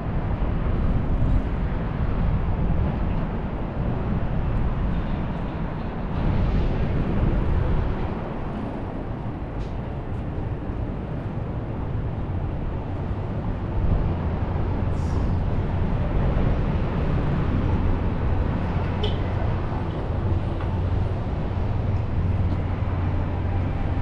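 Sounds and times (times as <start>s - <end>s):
light rail train rumbling: 0.0s - 24.0s.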